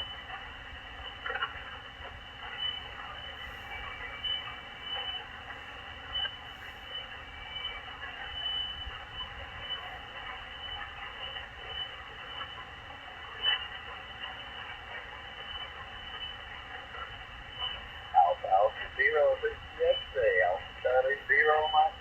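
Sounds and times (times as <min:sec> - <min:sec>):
crackling static: 0:00.0 - 0:22.0
faint high whine: 0:00.0 - 0:22.0
radio band noise hiss: 0:00.0 - 0:22.0.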